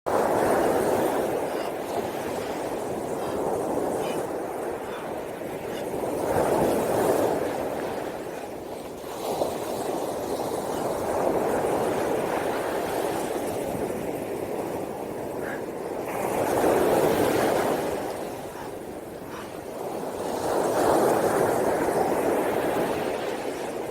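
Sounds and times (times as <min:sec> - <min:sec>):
sea surf breaking on beach: 0:00.1 - 0:23.9.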